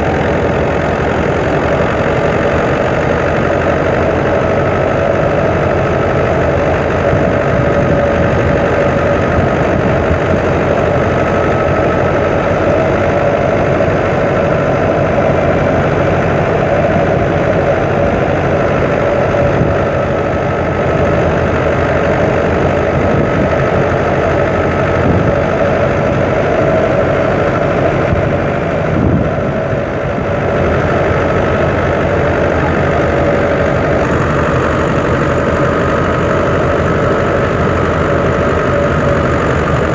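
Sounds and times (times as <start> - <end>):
tractor engine and threshing machine: 0.0 - 39.9.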